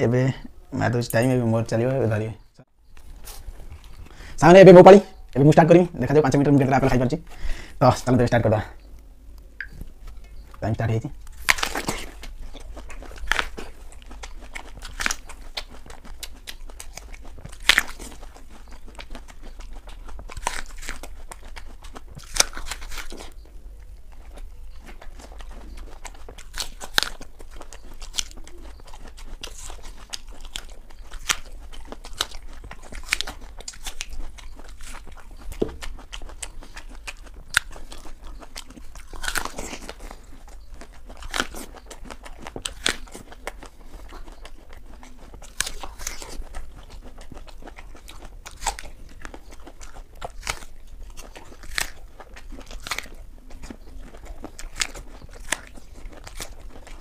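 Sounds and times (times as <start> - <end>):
apple being chewed crunching: 0.1 - 57.0.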